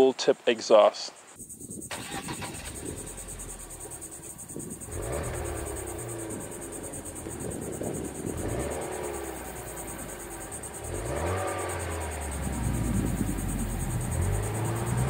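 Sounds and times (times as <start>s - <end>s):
car engine idling and revving: 1.9s - 15.0s.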